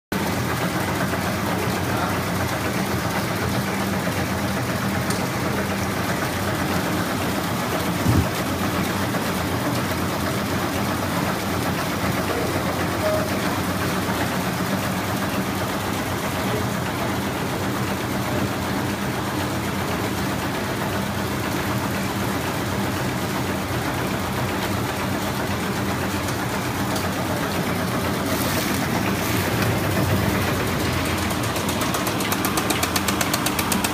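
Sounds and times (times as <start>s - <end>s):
wrapping machine running: 0.2s - 33.9s.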